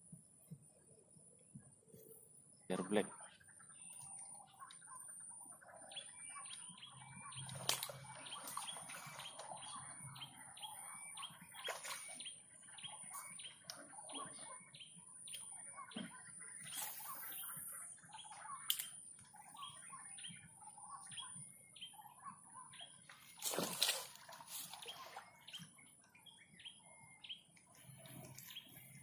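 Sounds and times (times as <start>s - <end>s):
small birds chirping: 0.4s - 29.0s.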